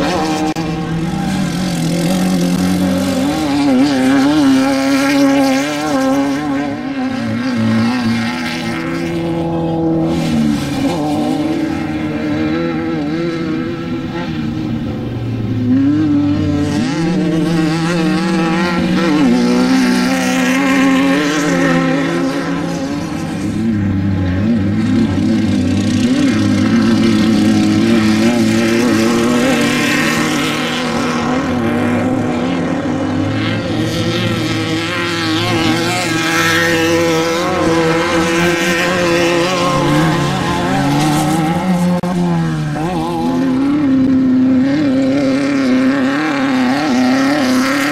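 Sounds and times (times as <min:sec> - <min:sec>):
race vehicle engines revving: 0:00.0 - 0:47.9.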